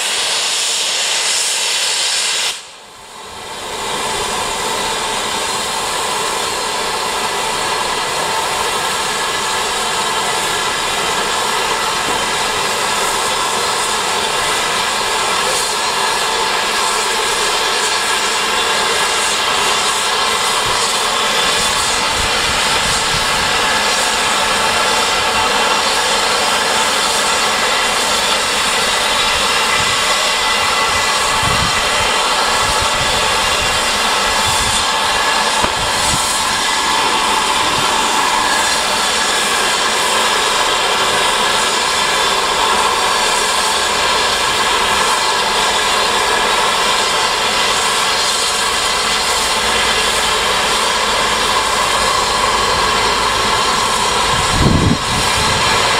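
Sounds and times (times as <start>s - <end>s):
steam hissing: 0.0s - 55.9s
steam whistling tones: 0.0s - 55.9s.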